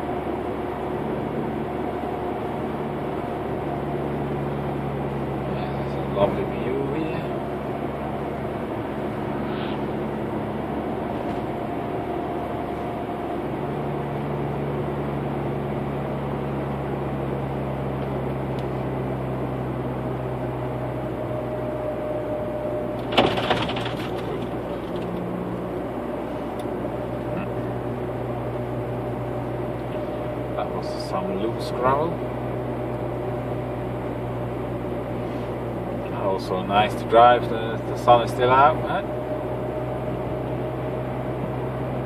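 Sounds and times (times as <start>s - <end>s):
car engine and tyre drone: 0.0s - 42.0s.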